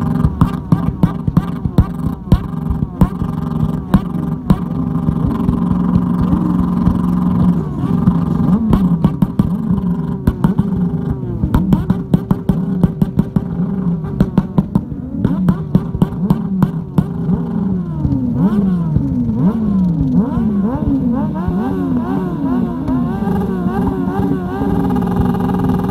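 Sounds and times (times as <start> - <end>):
exhaust backfires crackling: 0.0 - 25.9
motorcycle engines revving: 0.0 - 25.9.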